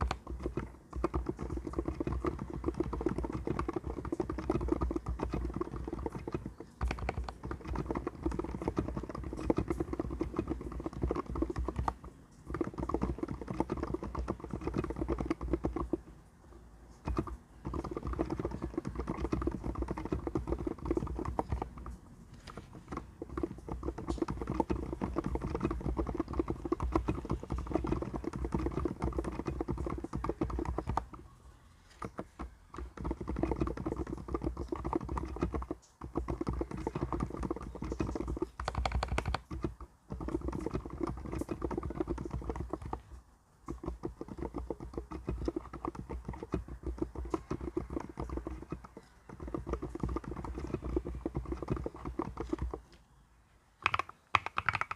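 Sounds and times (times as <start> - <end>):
mechanical keyboard typing: 0.0 - 53.0, 53.8 - 54.9.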